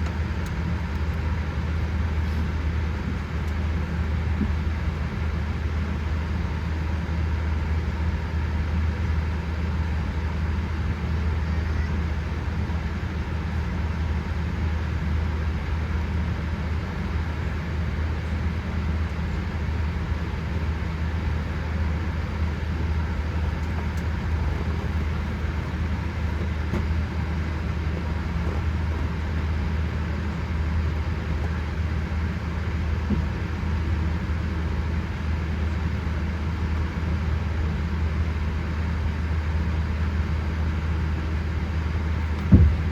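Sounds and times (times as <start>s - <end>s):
aircraft cabin hum: 0.0s - 39.1s, 40.7s - 42.9s.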